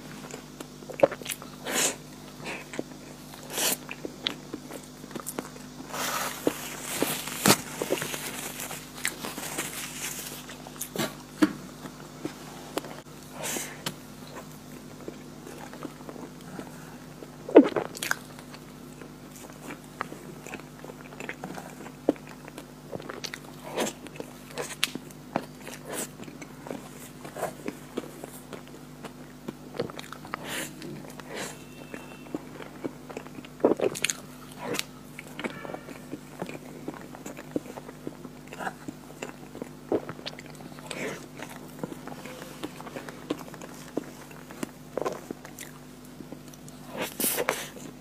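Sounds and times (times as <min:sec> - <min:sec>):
steady low hum: 0:00.0 - 0:48.0
chewing and wet mouth sounds: 0:00.2 - 0:48.0.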